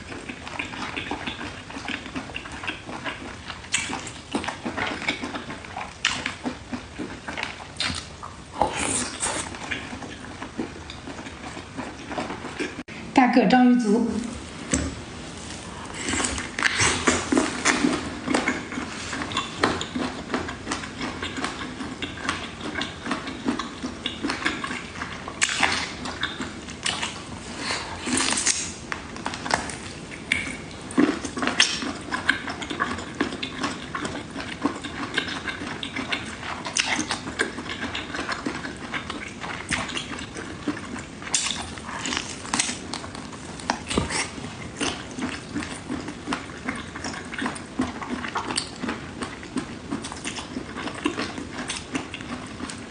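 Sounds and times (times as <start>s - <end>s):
wet sticky chewing: 0.0s - 12.9s, 14.3s - 52.9s.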